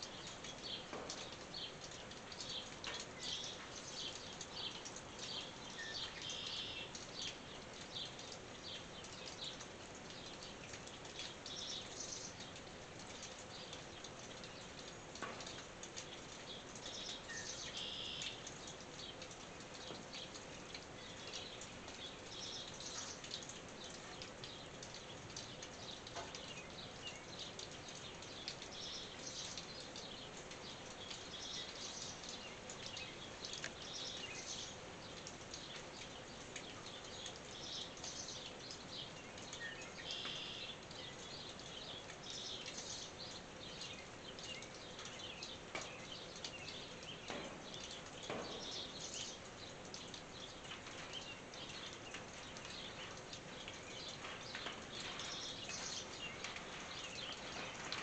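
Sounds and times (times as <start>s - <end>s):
birds chirping: 0.0s - 12.6s, 13.5s - 58.0s
rain pattering on tin roof: 0.0s - 58.0s.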